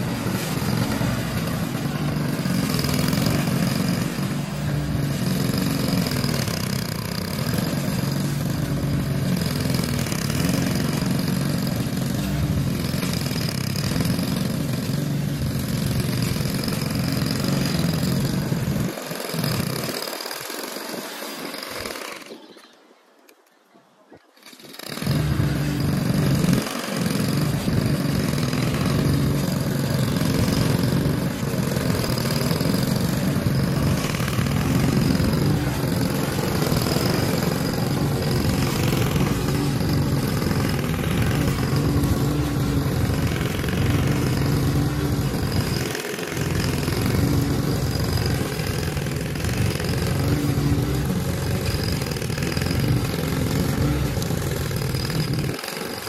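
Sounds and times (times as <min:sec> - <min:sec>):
lawn mower engine cutting grass: 0:00.0 - 0:22.8, 0:24.4 - 0:56.0.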